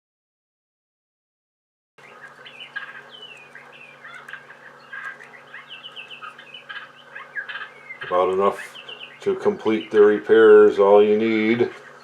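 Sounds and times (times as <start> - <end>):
faint low hum: 2.0 - 12.0
songbirds chirping: 2.0 - 12.0.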